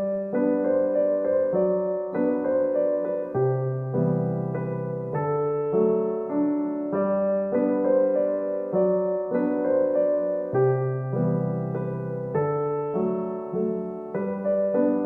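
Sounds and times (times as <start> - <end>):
gentle solo piano piece: 0.0 - 15.0.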